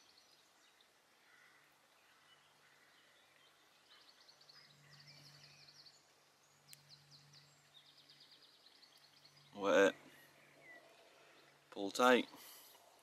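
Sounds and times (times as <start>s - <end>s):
distant birds trilling: 0.0s - 13.0s.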